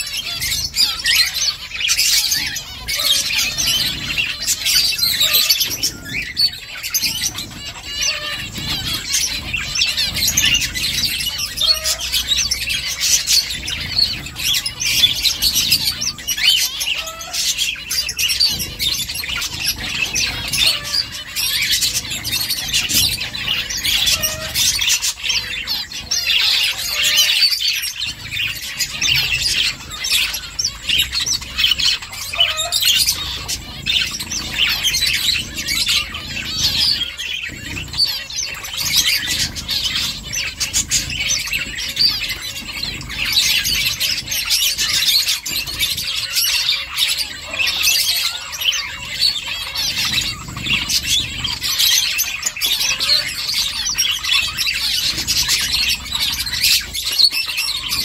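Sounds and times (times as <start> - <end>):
finches chirping: 0.0 - 58.0.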